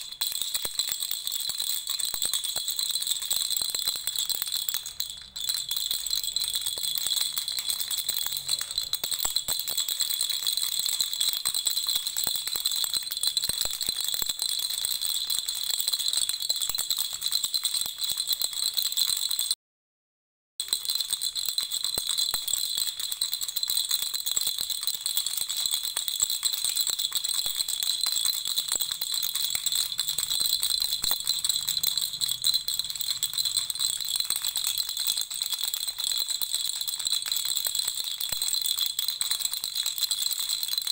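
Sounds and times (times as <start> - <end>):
baby rattle shaken: 0.0 - 19.5, 20.6 - 40.9.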